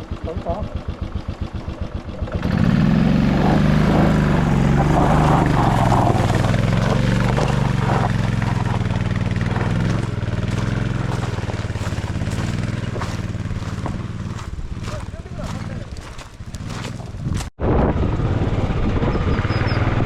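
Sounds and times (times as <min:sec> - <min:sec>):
motorcycle engine under throttle: 0:00.0 - 0:20.0.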